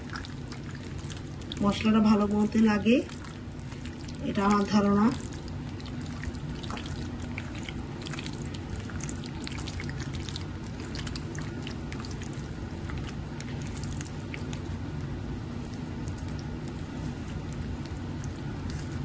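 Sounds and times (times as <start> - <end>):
steady low hum: 0.0 - 19.0
wet squelching of meat mixing: 0.0 - 19.0.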